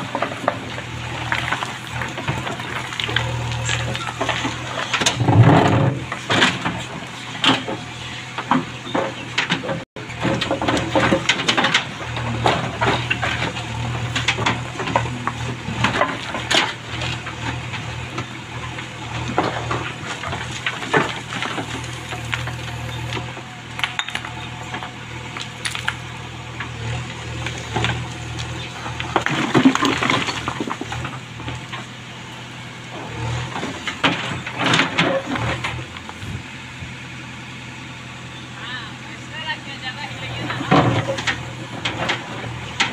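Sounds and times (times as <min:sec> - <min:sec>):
bucket scraping and clanking on stones: 0:00.0 - 0:31.9, 0:33.0 - 0:36.4, 0:40.4 - 0:42.9
diesel engine humming: 0:00.0 - 0:42.9.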